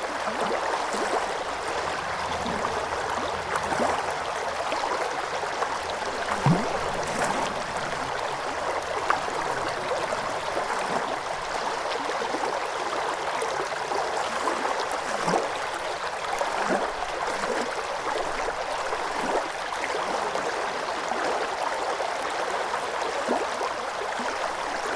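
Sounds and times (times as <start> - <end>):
water gurgles and plops: 0.0 - 20.1
river water over stones: 0.0 - 24.9.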